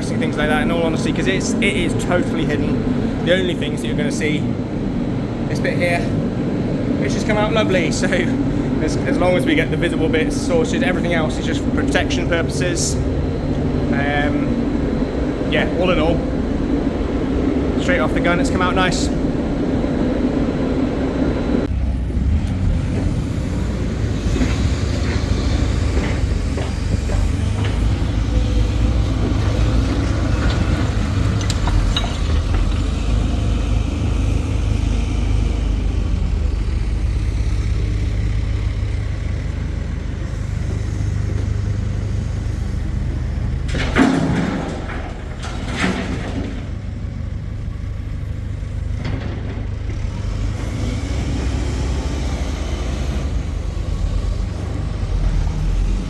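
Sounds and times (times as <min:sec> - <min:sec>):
digger engine rumbling: 0:00.0 - 0:56.0.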